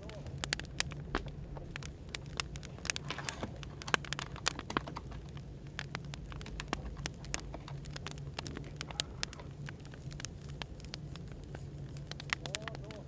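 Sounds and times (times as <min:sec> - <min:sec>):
cafe white noise hum: 0:00.0 - 0:13.0
wood fire crackling: 0:00.0 - 0:13.0.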